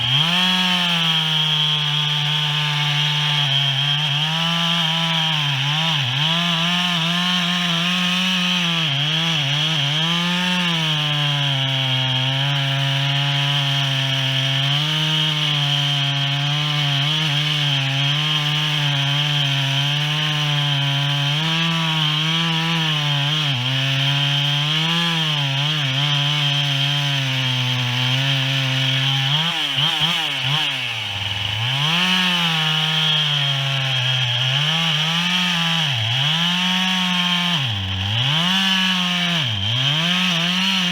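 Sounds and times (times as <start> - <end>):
chainsaw cutting into tree: 0.0 - 40.9.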